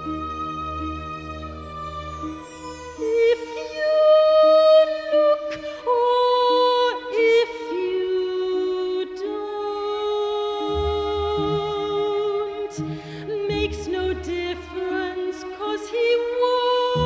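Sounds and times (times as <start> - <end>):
soft orchestral accompaniment: 0.0 - 17.0
soprano singing with vibrato: 0.0 - 17.0.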